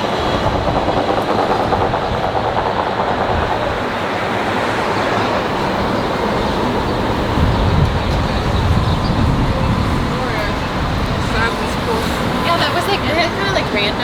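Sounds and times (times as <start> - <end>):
city traffic passing: 0.0 - 14.0.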